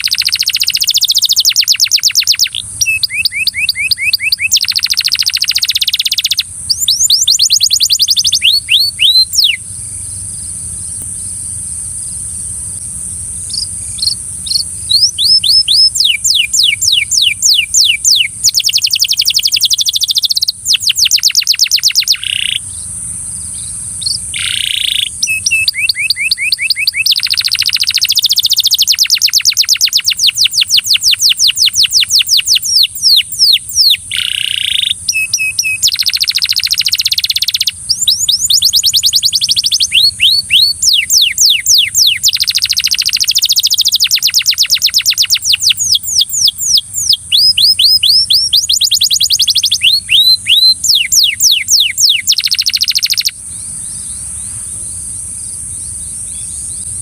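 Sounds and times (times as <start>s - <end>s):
canary singing fast trills: 0.0s - 54.9s
steady high-pitched hiss: 0.0s - 57.0s.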